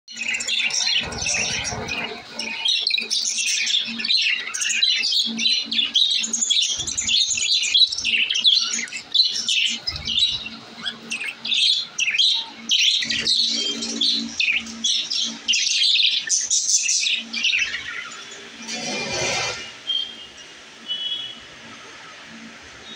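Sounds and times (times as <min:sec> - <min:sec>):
budgerigars chirping and chattering: 0:00.1 - 0:20.2.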